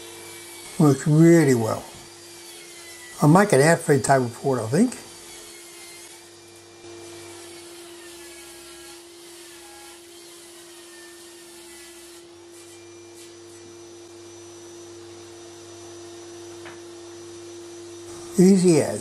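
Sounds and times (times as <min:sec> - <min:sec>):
machine electric hum: 0:00.0 - 0:19.0.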